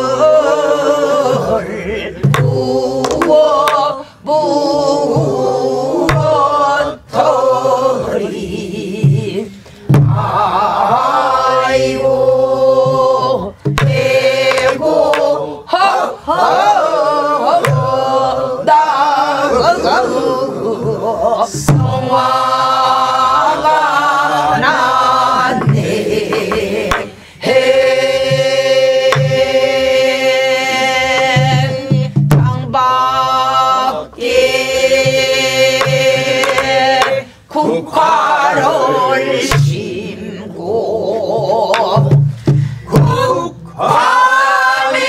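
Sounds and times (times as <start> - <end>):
barrel drum beats: 2.2 - 37.3, 38.0 - 40.0, 41.6 - 44.3.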